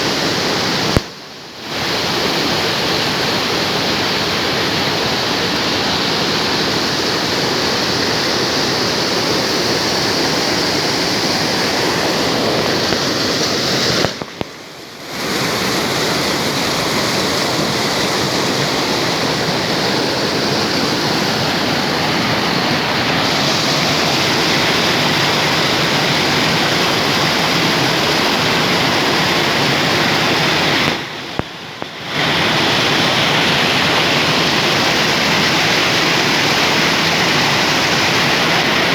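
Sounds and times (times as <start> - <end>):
spring water rushing: 0.0 - 38.9.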